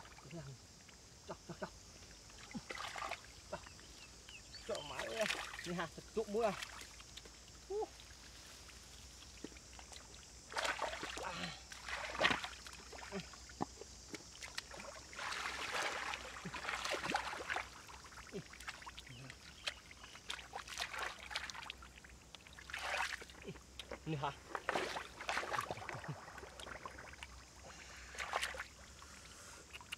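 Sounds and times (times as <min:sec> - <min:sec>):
muddy water splashing: 0:01.6 - 0:29.9.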